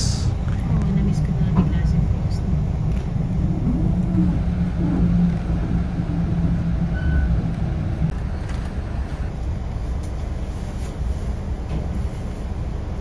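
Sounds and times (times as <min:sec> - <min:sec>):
train car rumble: 0:00.0 - 0:13.0.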